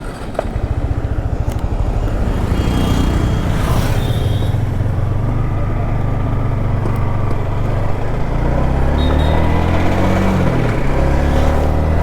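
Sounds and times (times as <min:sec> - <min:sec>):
motorcycle engine accelerating: 0:00.0 - 0:12.0
rush of road noise: 0:00.0 - 0:12.0.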